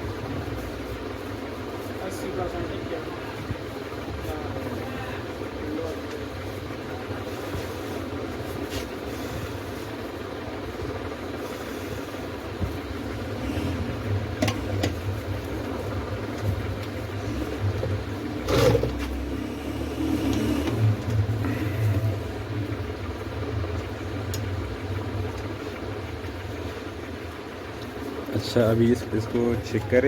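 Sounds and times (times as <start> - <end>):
hot air station blowing: 0.2 - 25.8.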